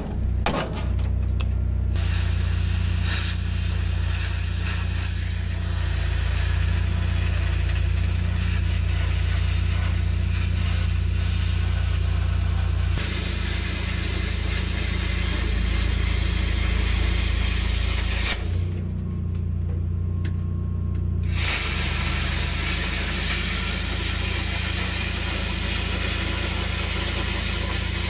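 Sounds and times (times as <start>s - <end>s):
generator engine drone: 0.0s - 28.0s
plasma cutter hissing: 2.0s - 18.8s, 21.2s - 28.0s.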